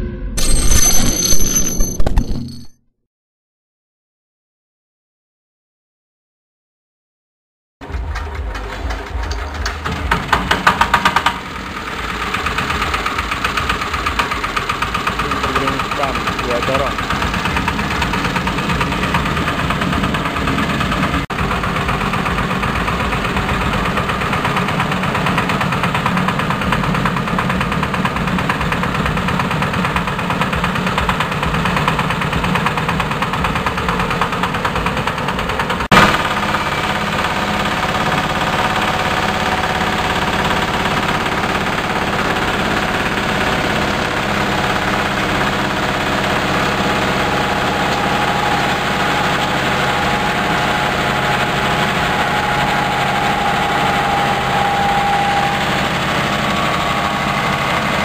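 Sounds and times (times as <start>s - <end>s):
hammer mill running: 7.8s - 58.0s
steady machine whine: 11.4s - 58.0s.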